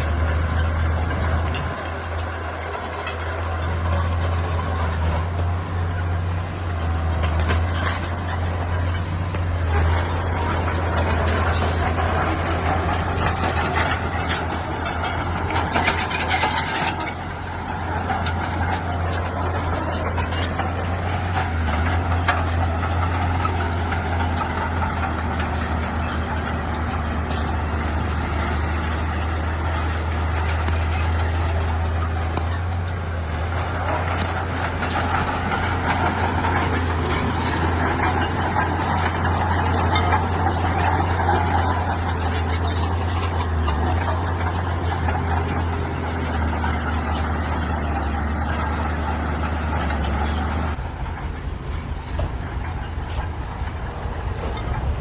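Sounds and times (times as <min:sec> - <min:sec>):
diesel earthmoving machinery: 0:00.0 - 0:55.0
knocks and rattles: 0:00.0 - 0:55.0.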